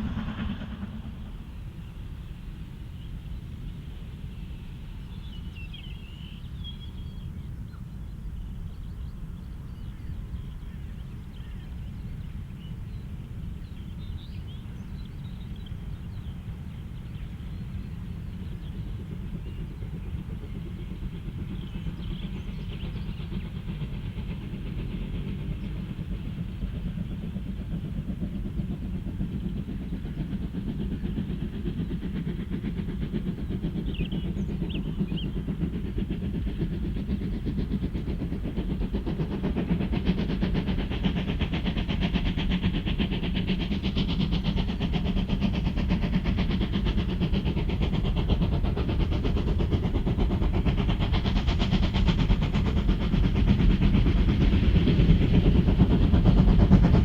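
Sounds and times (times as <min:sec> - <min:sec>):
steam train rumbling: 0:00.0 - 0:57.0.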